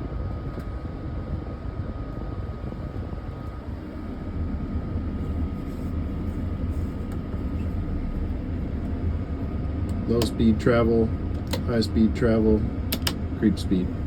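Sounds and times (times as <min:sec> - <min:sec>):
faint high whine: 0:00.0 - 0:14.0
excavator diesel engine running: 0:01.5 - 0:14.0.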